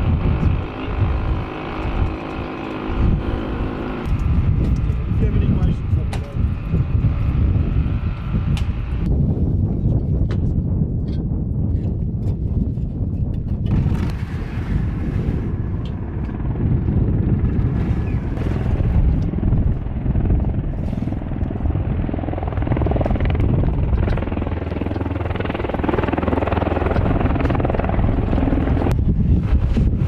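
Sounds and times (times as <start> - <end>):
helicopter rotor and engine rumble: 0.0 - 30.0.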